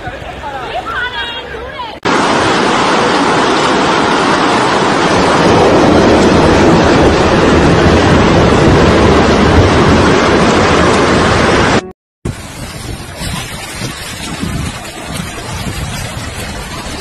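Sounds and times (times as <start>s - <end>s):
floodwater rushing down street: 0.0s - 17.0s.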